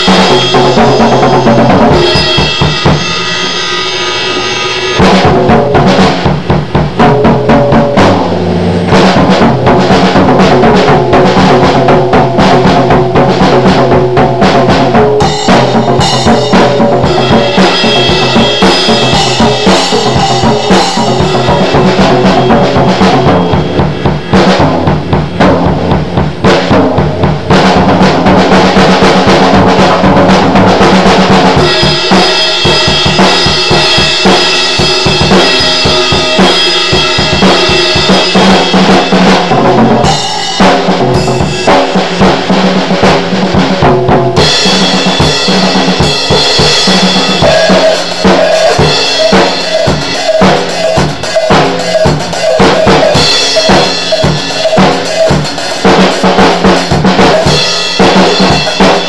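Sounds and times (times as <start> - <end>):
cymbals crashing: 0.0 - 14.1, 14.8 - 26.0, 28.4 - 59.0
drums played fast: 0.0 - 59.0.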